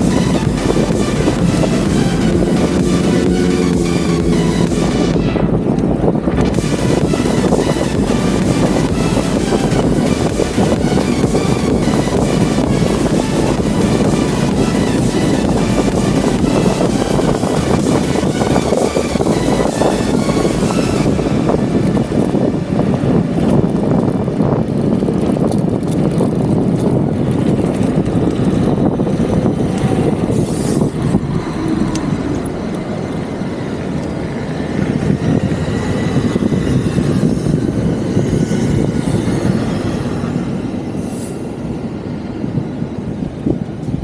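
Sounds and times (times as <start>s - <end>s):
road noise: 0.0s - 44.0s
wind noise: 0.0s - 44.0s.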